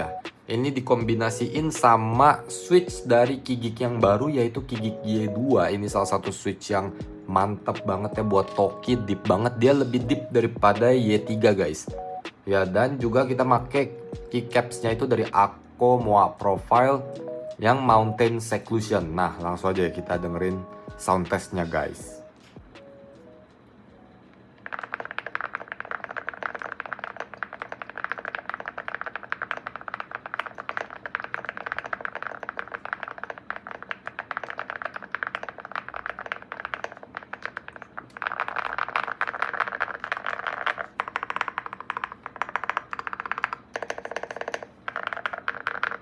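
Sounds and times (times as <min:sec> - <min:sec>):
mechanical keyboard typing: 0:00.0 - 0:22.8, 0:24.6 - 0:46.0.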